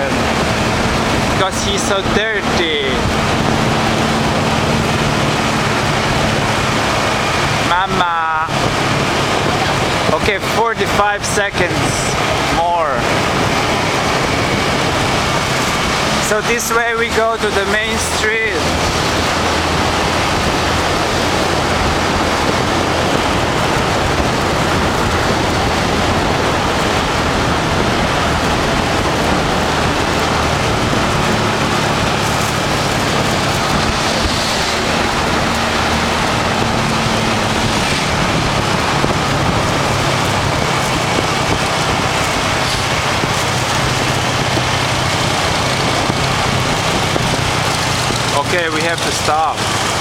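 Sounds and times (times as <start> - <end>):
motorbike engine humming: 0.0 - 50.0
wind rushing over microphone: 0.0 - 50.0.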